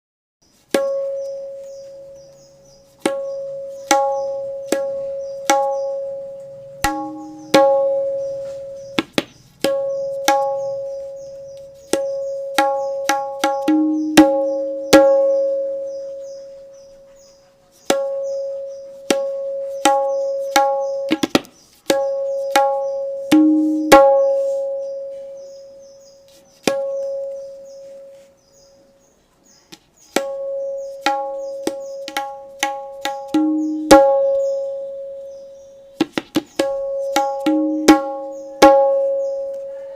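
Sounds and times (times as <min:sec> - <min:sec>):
tabla strokes ringing: 0:00.6 - 0:28.7, 0:30.1 - 0:39.6.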